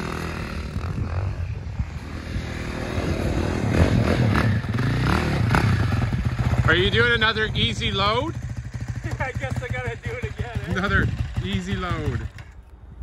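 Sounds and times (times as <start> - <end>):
quad engine running: 0.0 - 12.7.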